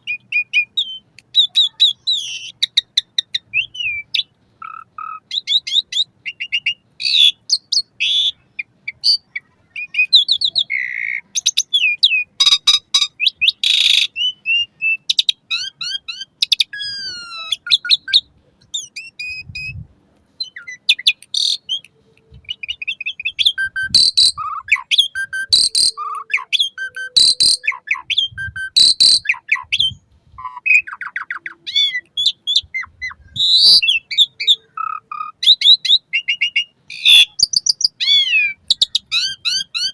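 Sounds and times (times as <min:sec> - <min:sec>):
harsh rasping bird calls: 0:00.0 - 0:19.5, 0:20.4 - 0:39.9
starling singing: 0:00.0 - 0:19.8, 0:20.4 - 0:39.9.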